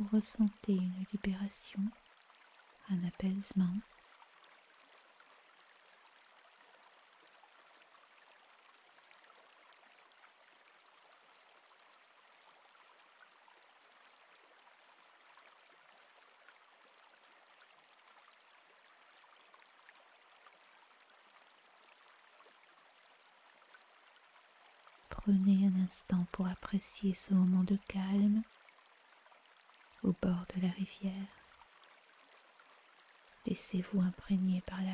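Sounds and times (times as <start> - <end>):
water splashing and trickling: 0.0 - 34.9.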